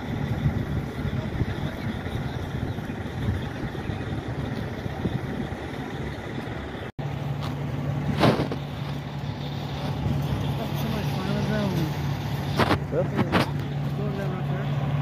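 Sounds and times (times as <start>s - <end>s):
truck engines idling: 0.0s - 15.0s.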